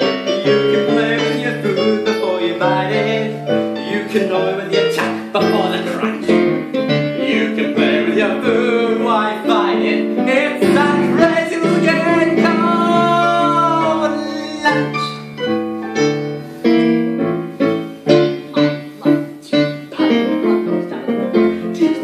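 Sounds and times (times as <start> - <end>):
person singing: 0.0 - 15.5, 18.1 - 22.0
piano chords: 0.0 - 22.0.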